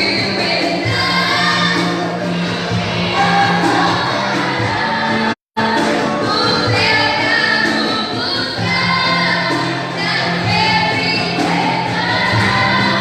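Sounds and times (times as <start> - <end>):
church worship singing: 0.0 - 13.0.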